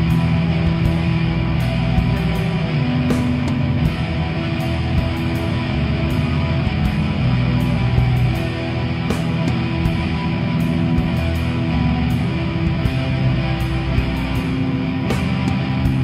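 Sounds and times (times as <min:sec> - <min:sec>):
rock music with electric guitar: 0:00.0 - 0:16.0
steady drum beat: 0:00.0 - 0:16.0.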